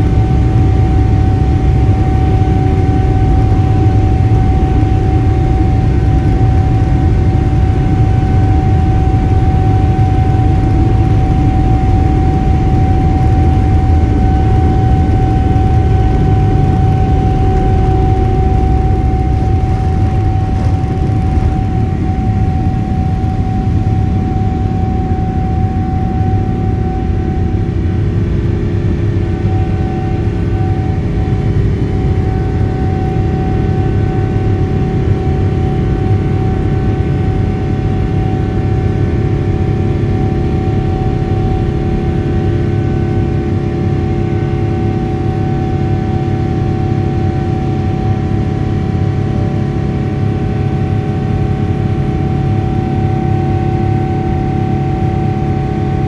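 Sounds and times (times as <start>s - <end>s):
jet engine deep rumble: 0.0s - 56.0s
whining fan tone: 0.0s - 56.0s.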